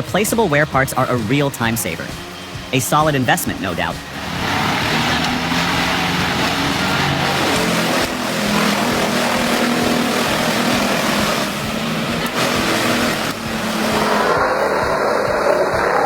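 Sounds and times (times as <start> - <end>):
large engine running under load: 0.0 - 16.0.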